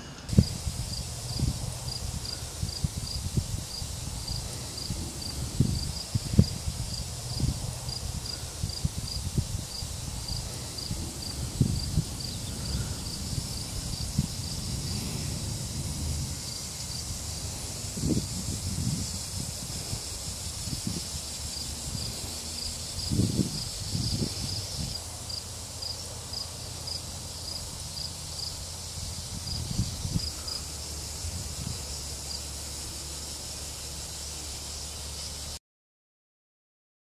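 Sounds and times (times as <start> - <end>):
cricket chirping: 0.3 - 35.6.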